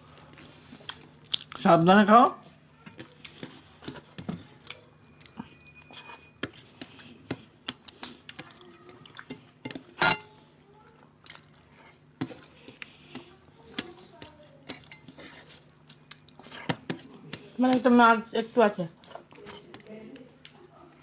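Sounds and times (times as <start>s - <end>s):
wet chewing: 0.0s - 1.6s, 2.8s - 17.9s, 18.6s - 21.0s.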